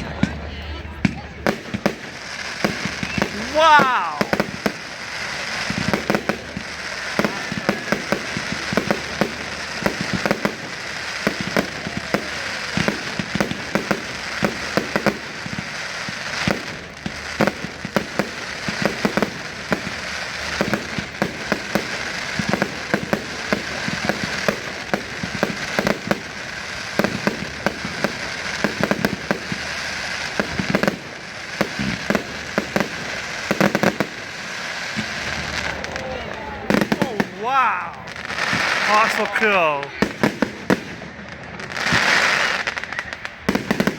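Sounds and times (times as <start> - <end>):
fireworks bangs: 0.0 - 43.9
fireworks crackle: 0.0 - 43.9.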